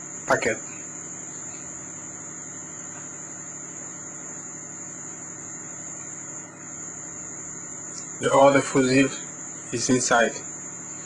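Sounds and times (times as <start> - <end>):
electrical equipment humming: 0.0 - 11.0
high-pitched whine: 0.0 - 11.0.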